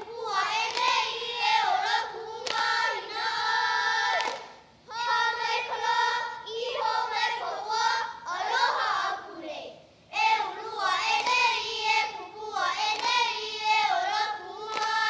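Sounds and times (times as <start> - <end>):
children chanting in unison: 0.0 - 15.0.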